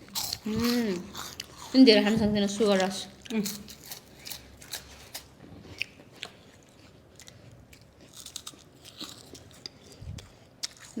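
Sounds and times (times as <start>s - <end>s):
crunchy snack chewing: 0.0s - 1.8s, 3.2s - 11.0s.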